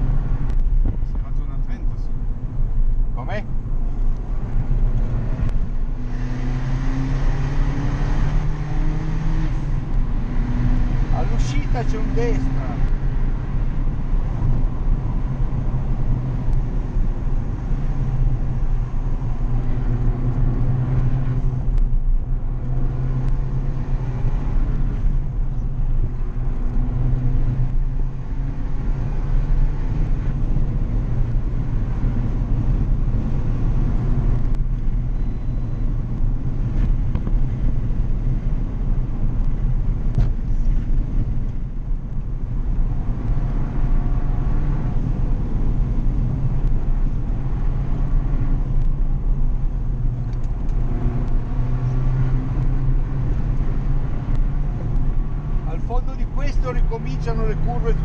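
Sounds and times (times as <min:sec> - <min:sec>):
car engine running hard: 0:00.0 - 0:58.0
road noise: 0:00.0 - 0:58.0.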